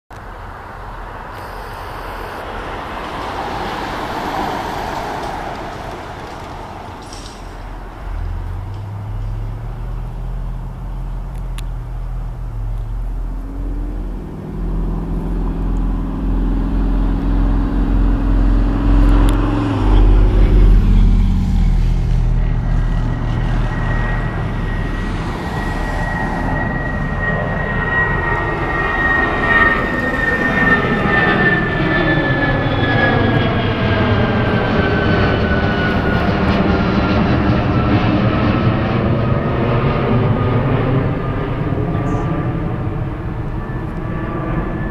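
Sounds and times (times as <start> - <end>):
high fan whine: 0.2 - 44.9
jet engines at takeoff: 0.2 - 44.9.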